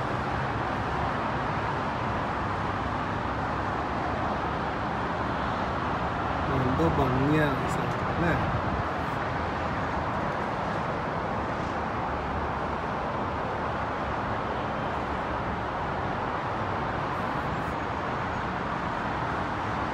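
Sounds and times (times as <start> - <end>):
highway traffic noise: 0.0 - 19.9.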